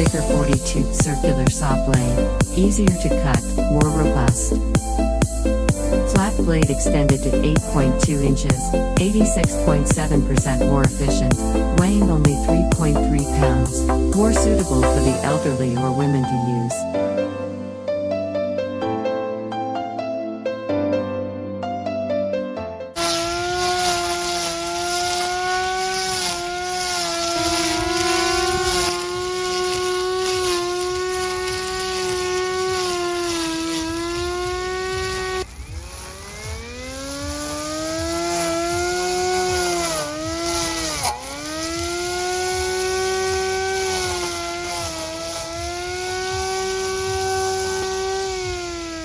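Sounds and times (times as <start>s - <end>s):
electric mower motor whine: 0.0s - 17.9s, 23.0s - 49.0s.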